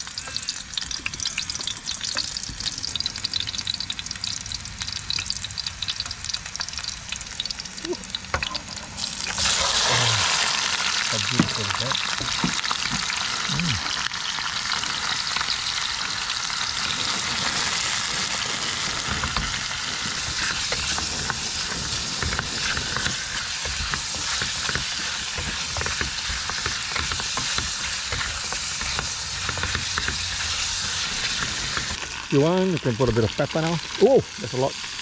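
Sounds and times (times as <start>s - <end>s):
fish sizzling in oil: 0.0s - 35.0s.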